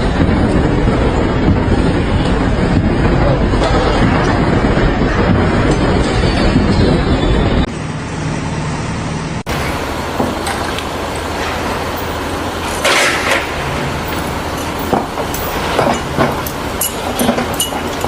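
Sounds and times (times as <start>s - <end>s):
road noise: 0.0s - 18.0s
vehicle engine: 0.0s - 18.0s.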